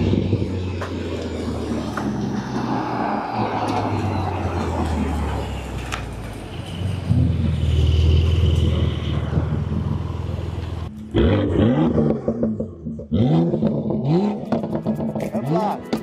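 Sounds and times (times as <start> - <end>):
car engine revving in blips: 0.0 - 6.1, 7.0 - 16.0.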